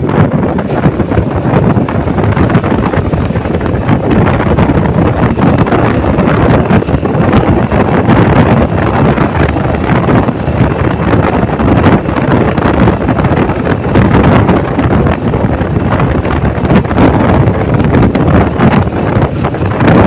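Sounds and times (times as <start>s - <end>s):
vehicle rumble: 0.0s - 20.0s
wind buffeting microphone: 0.0s - 20.0s.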